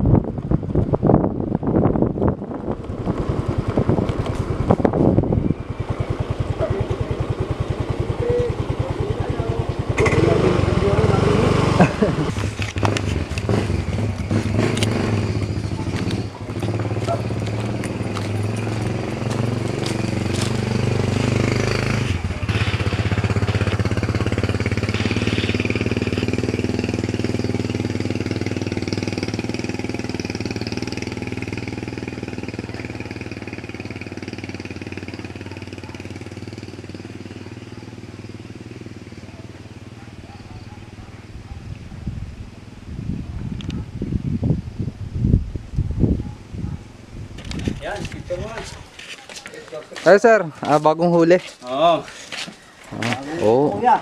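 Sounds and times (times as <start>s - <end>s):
motorcycle engine running: 0.0s - 50.1s.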